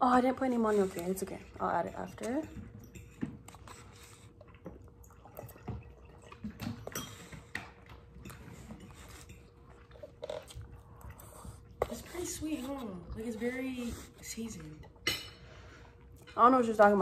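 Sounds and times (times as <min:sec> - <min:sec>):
chewing noises: 0:00.4 - 0:15.0.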